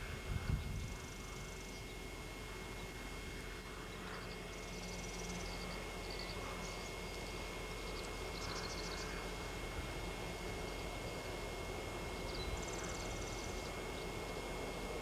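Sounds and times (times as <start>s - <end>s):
low drone and hum: 0.0s - 15.0s
distant high rapid chirping: 0.8s - 15.0s.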